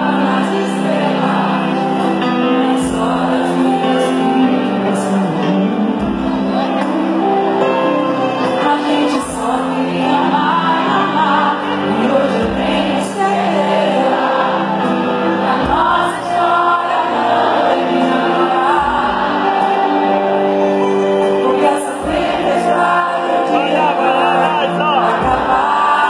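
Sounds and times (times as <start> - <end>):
crowd singing along: 0.0 - 26.0
live pop ballad by band: 0.0 - 26.0
woman singing lead: 0.0 - 26.0.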